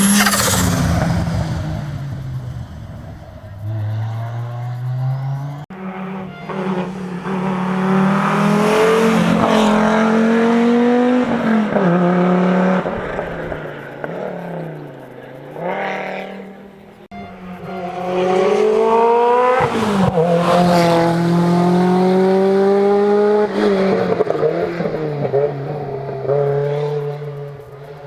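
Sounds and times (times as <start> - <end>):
rally car engine accelerating: 0.0 - 28.0.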